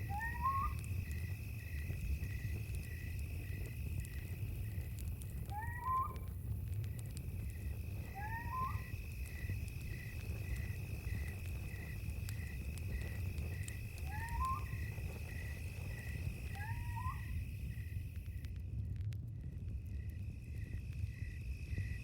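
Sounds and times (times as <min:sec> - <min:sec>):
cricket trill: 0:00.0 - 0:18.5, 0:19.8 - 0:22.0
campfire crackling: 0:00.0 - 0:22.0.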